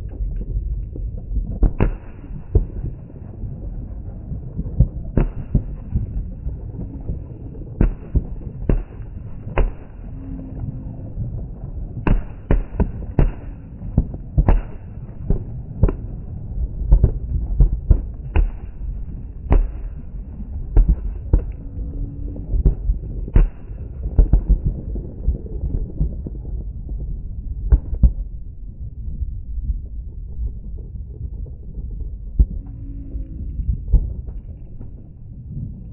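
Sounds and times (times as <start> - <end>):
distant fireworks rumble: 0.0 - 35.9.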